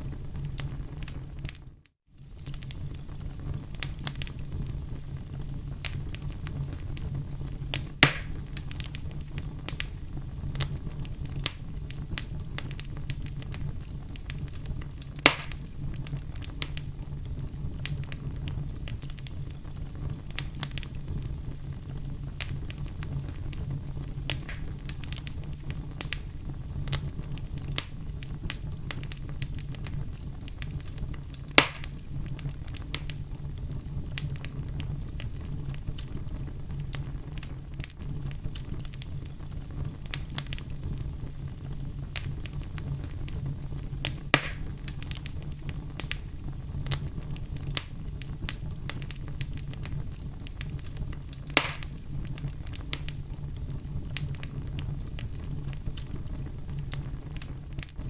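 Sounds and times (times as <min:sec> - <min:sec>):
fire crackling: 0:00.0 - 0:58.0
loud fire pops: 0:00.0 - 0:58.0
wood fire rumbling: 0:00.0 - 0:58.0.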